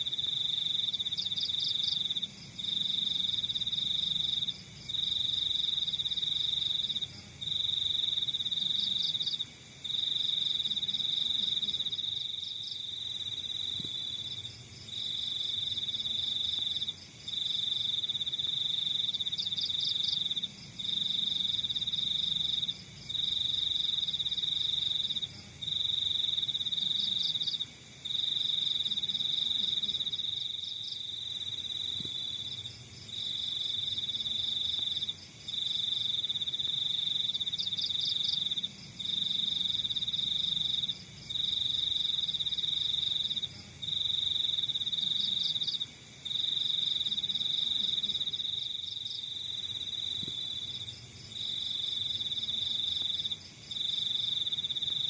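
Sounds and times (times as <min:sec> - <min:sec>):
crickets trilling: 0:00.0 - 0:55.0
faint pulsed cricket chirps: 0:00.0 - 0:55.0.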